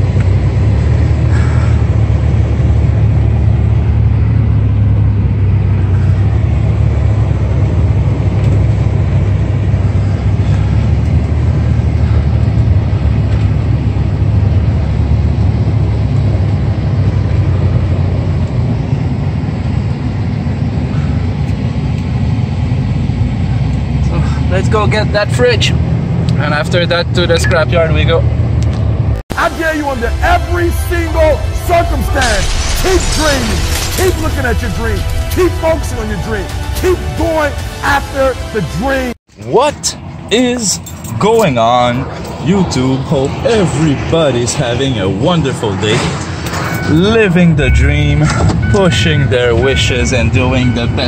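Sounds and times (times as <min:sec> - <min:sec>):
vehicle engine and road rumble: 0:00.0 - 0:51.0.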